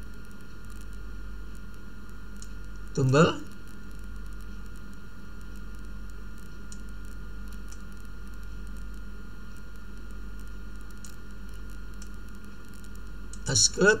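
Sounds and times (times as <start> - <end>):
faint ticks: 0.0 - 13.5
faint high-pitched whine: 0.0 - 14.0
low electrical hum: 0.0 - 14.0
microphone hiss: 0.0 - 14.0.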